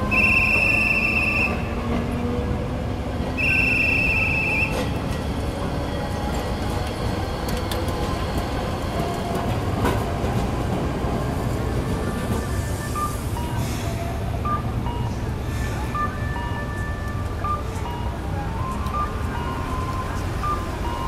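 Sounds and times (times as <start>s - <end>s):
tram wheels rumbling: 0.0s - 21.0s.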